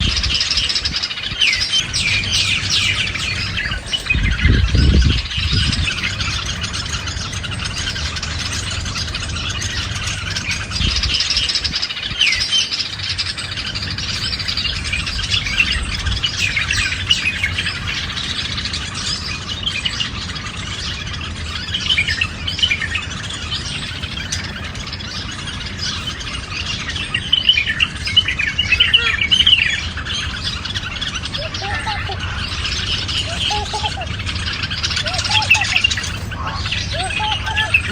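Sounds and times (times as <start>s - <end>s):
parrots chirping and squawking: 0.0s - 37.9s.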